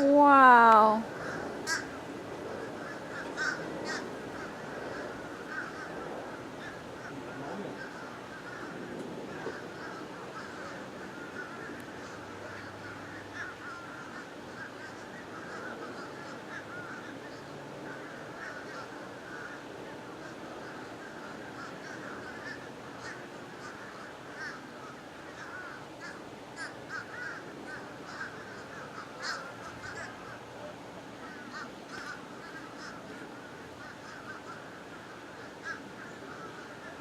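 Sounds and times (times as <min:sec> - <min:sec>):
flock of birds chattering: 0:00.0 - 0:37.0.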